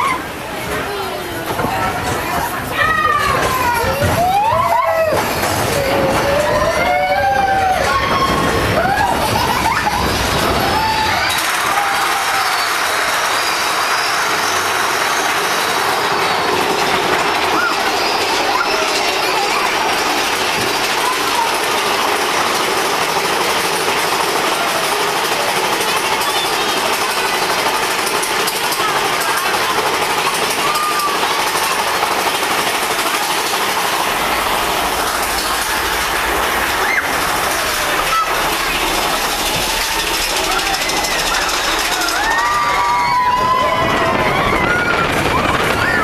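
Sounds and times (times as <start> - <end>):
roller coaster rumbling on track: 0.0 - 46.0
high squeals of coaster: 2.2 - 46.0.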